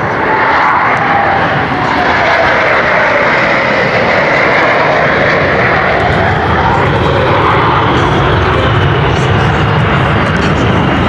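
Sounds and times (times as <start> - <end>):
jet aircraft flying past: 0.0 - 11.0.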